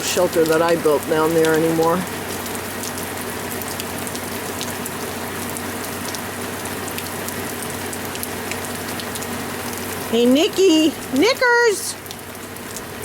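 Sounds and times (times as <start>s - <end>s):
heavy rain pouring: 0.0s - 13.0s
raindrops ticking on surface: 0.0s - 13.0s.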